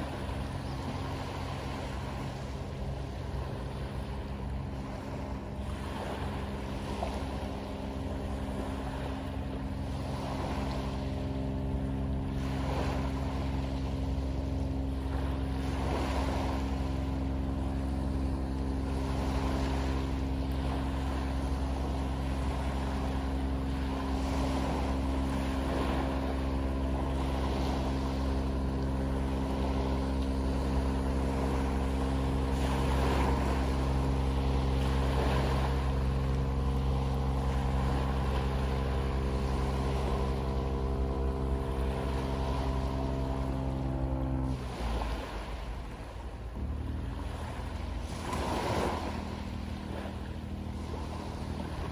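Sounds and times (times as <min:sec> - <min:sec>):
boat engine droning: 0:00.0 - 0:51.9
waves washing on pebble beach: 0:03.3 - 0:51.9.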